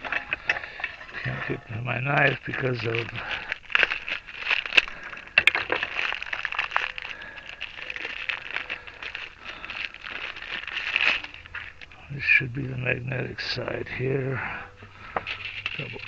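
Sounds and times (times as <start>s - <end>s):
hands handling parts: 0.0s - 16.0s.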